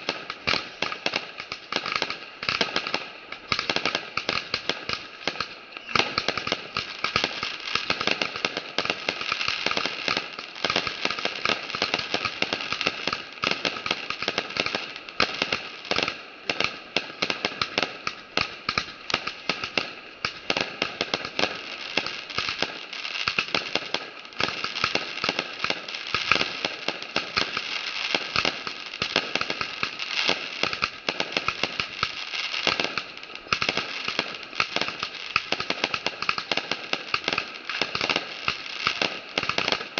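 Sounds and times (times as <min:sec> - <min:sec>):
fireworks popping and crackling: 0:00.0 - 0:39.9.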